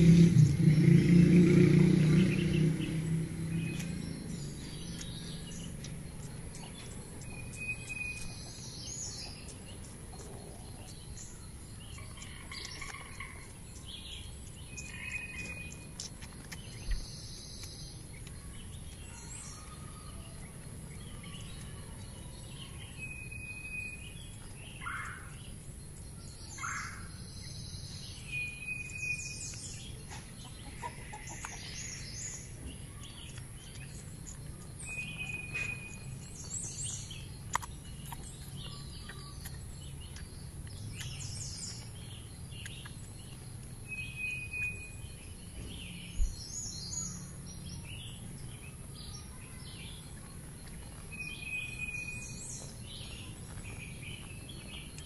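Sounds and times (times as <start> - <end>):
high bird chirps: 0.0 - 25.6, 26.3 - 55.0.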